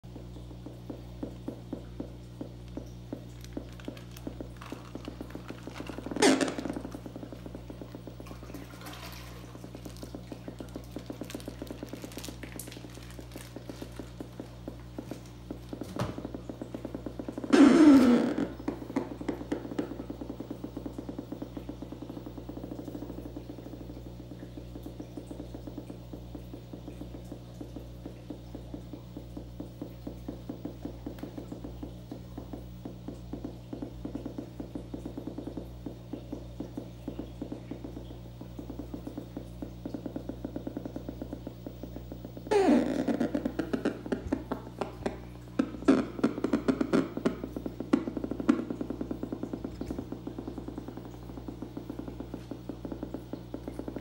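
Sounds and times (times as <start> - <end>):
crackle of clicks: 0.0 - 54.0
steady low hum: 0.0 - 54.0.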